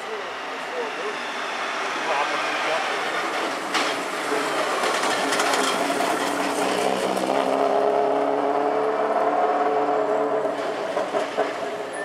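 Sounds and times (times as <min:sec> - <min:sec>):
rally car engine under power: 0:00.5 - 0:12.0.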